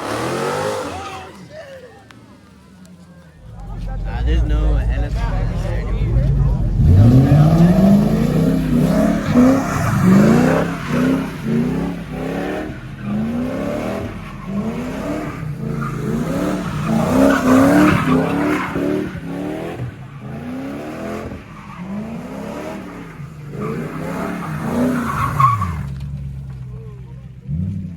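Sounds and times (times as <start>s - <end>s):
car engine revving: 0.0s - 1.4s, 3.2s - 27.9s.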